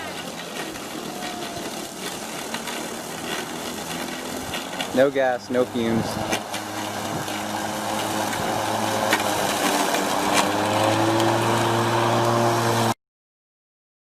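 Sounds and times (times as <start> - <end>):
electric lawn mower running: 0.0 - 13.0.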